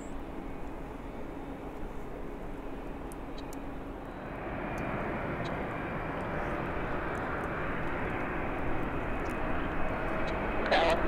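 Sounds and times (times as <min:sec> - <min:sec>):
airliner engines rushing: 0:00.0 - 0:11.0
faint steady whine: 0:00.0 - 0:11.0.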